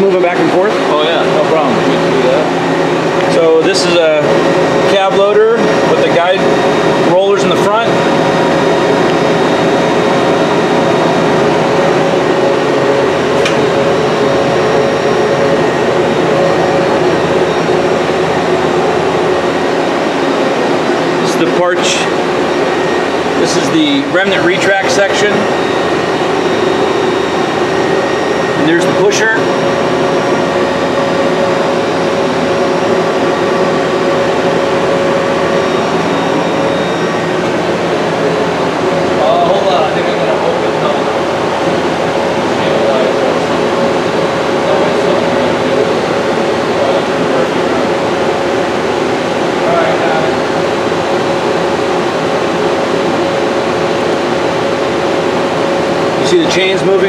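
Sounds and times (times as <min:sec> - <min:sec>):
lathe machine humming: 0:00.0 - 0:57.0
steady machine tones: 0:00.0 - 0:57.0.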